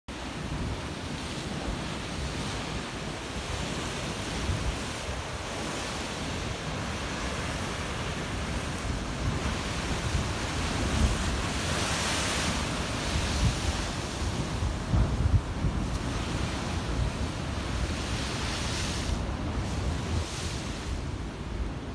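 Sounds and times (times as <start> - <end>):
rough surf breaking over rocks: 0.1 - 21.9
wind buffeting the microphone: 0.2 - 21.9.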